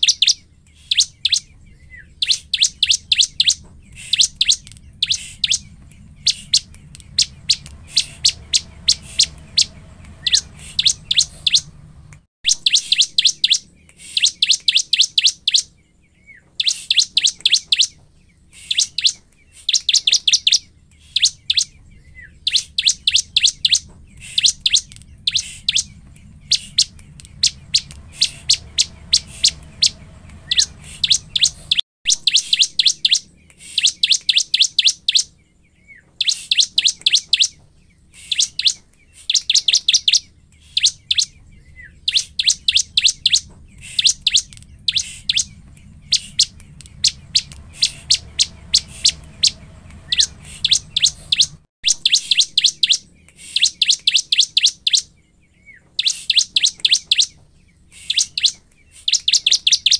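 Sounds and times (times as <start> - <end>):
bird singing sharp chipping notes: 0.0 - 59.9.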